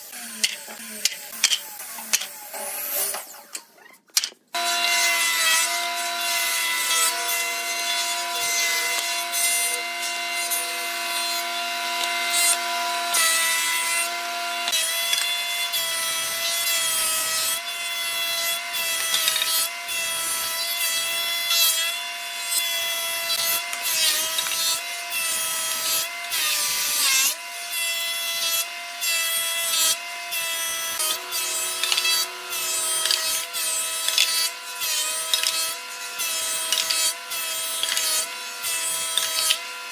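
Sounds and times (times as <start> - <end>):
cutter head rasping on boards: 0.0 - 39.9
thickness planer whining: 4.5 - 39.9.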